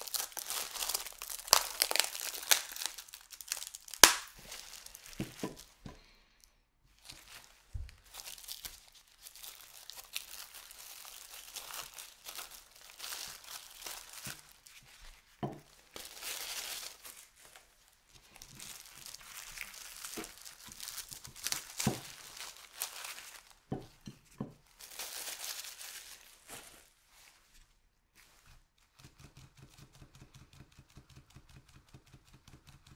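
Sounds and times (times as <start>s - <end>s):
plastic wrapping crinkling: 0.0s - 5.9s, 6.9s - 27.6s.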